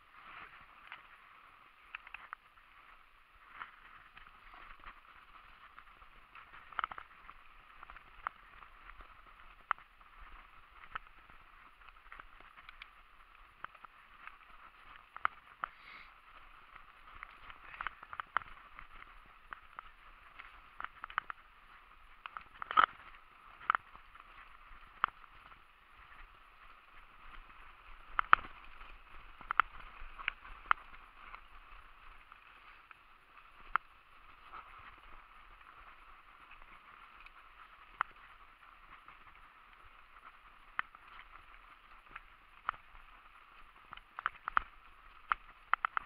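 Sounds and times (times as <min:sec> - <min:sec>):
mountain bike riding on dirt: 0:00.0 - 0:46.0.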